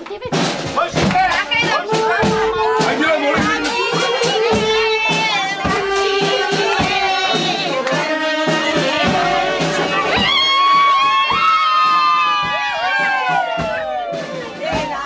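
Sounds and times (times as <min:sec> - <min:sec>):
hand drum strokes: 0:00.0 - 0:15.0.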